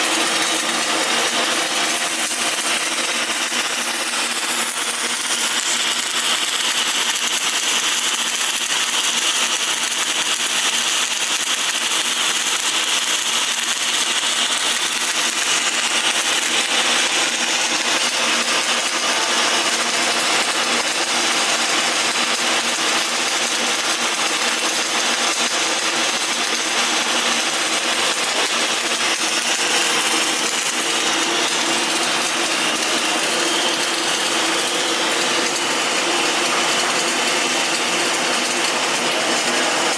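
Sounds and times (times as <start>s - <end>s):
continuous welding hiss: 0.0s - 39.9s.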